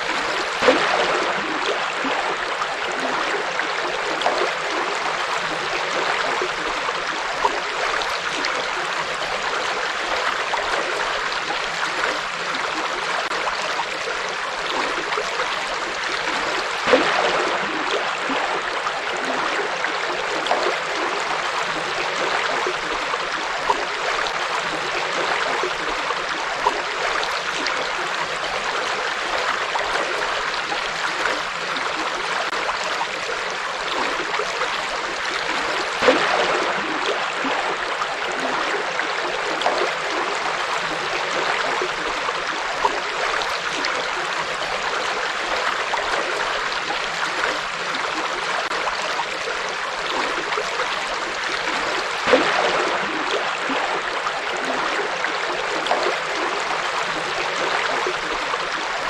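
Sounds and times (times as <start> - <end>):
river water splashing over rocks: 0.0 - 59.0.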